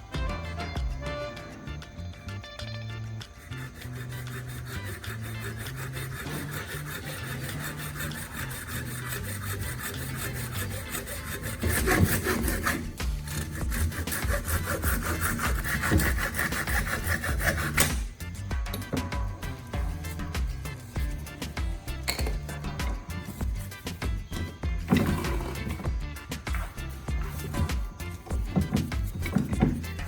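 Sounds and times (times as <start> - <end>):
tool rasping strokes: 2.6 - 30.0.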